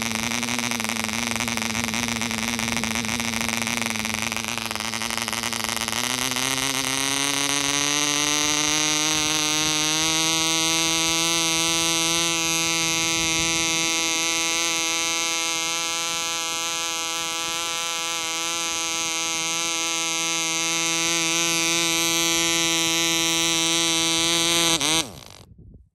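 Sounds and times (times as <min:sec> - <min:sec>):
model engine high-pitched buzz: 0:00.0 - 0:25.5.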